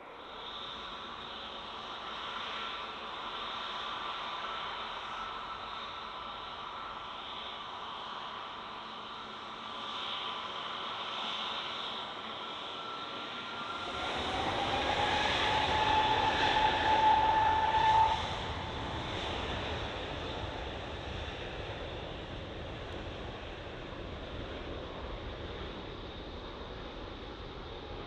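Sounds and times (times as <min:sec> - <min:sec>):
jet airliner passing: 0:00.2 - 0:28.0.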